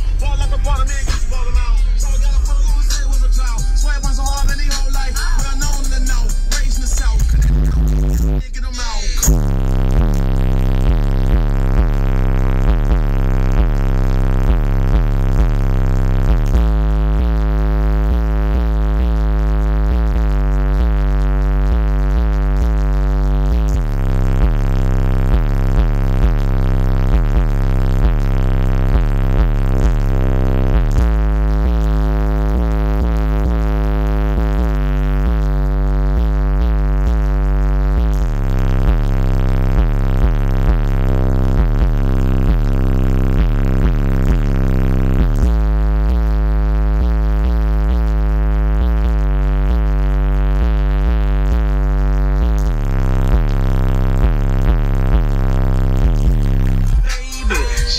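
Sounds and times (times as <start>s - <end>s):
loud electronic music with heavy bass: 0.0s - 57.9s.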